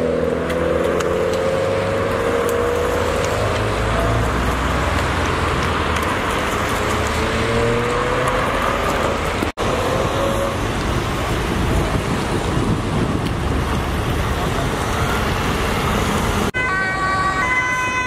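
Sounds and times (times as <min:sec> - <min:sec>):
traffic on a wet road: 0:00.0 - 0:18.0.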